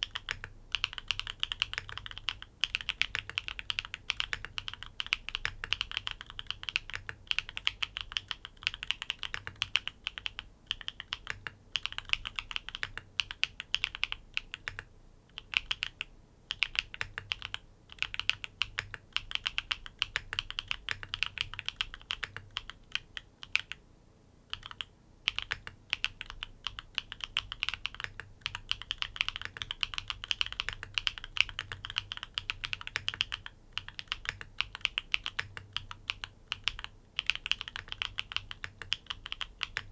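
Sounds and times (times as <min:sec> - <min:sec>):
mechanical keyboard typing: 0:00.0 - 0:23.8, 0:24.5 - 0:39.9.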